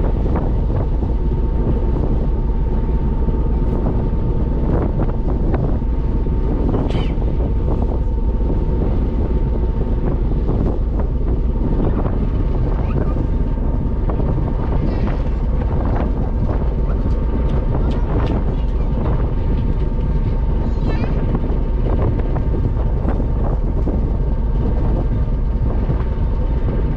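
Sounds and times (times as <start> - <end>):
constant hum: 0.0 - 26.9
ferry engine noise: 0.0 - 26.9
wind buffeting microphone: 0.0 - 26.9.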